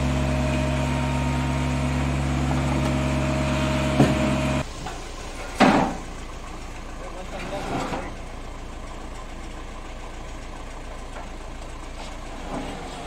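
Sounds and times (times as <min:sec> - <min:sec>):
diesel engine droning: 0:00.0 - 0:13.0
engine idling: 0:00.0 - 0:13.0.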